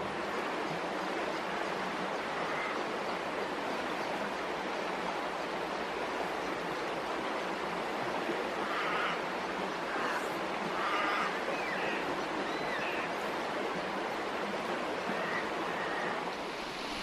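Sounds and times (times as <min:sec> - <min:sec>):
shallow river water flowing: 0:00.0 - 0:17.0.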